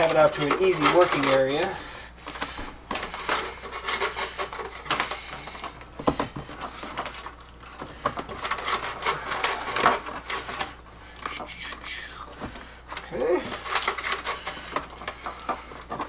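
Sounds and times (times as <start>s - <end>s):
wire rubbing and scraping: 0.0s - 16.0s.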